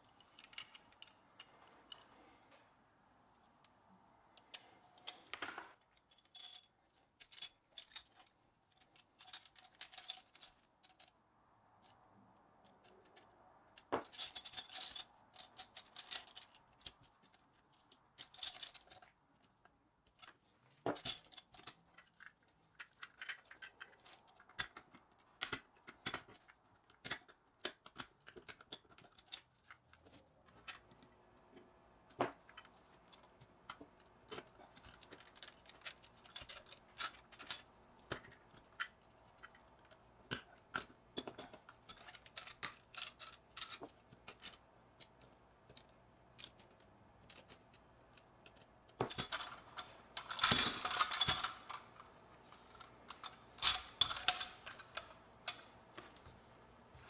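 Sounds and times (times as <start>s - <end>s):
toy truck parts clicking: 0.0s - 2.2s, 4.4s - 55.7s.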